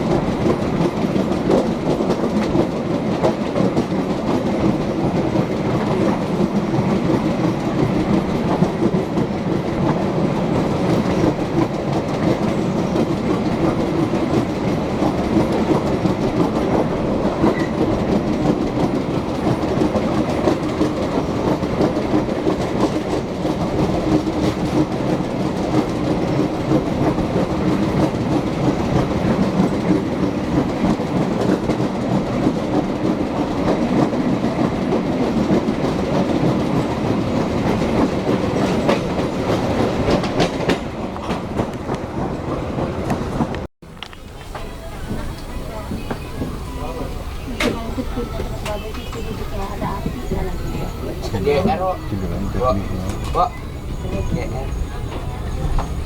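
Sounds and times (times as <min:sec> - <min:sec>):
train coaches rumbling: 0:00.0 - 0:56.0
wheels clacking over rail joints: 0:00.0 - 0:56.0.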